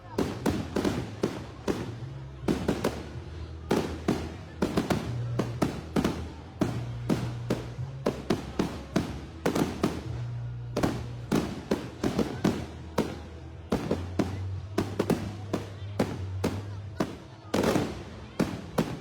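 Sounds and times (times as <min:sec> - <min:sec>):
fireworks bangs: 0:00.0 - 0:19.0
music: 0:00.0 - 0:19.0.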